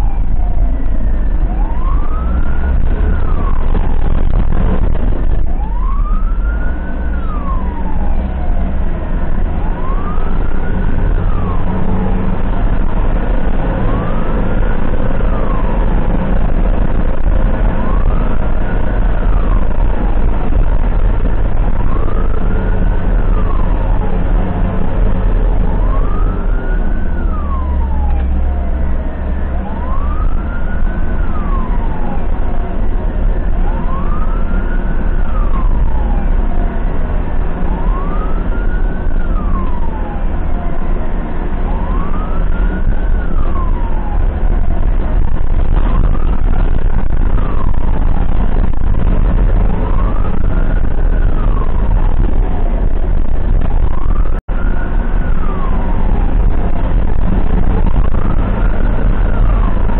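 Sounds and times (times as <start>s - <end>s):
ambulance siren wailing: 0.0s - 59.9s
engine and road noise: 0.0s - 59.9s.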